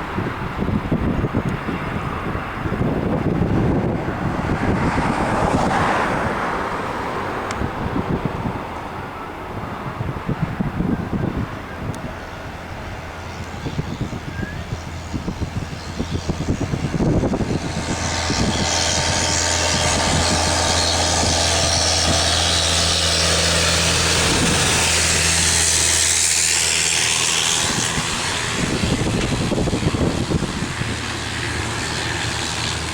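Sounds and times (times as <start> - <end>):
jet engine roar at takeoff: 0.0 - 32.9.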